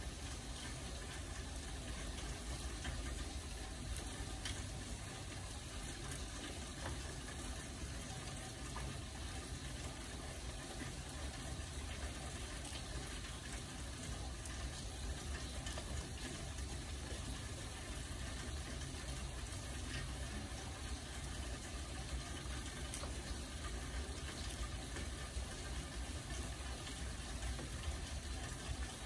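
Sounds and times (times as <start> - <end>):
raindrops ticking: 0.0 - 29.0
steady rain hiss: 0.0 - 29.0.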